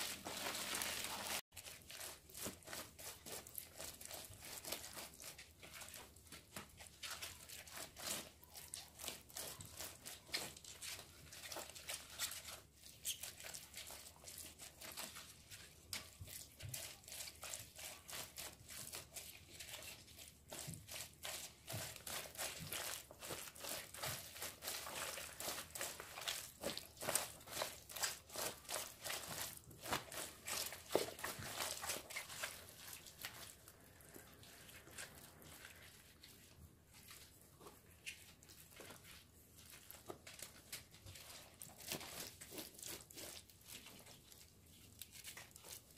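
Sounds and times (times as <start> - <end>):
crinkling and rustling leaves: 0.0 - 45.9
wet smearing: 0.0 - 45.9.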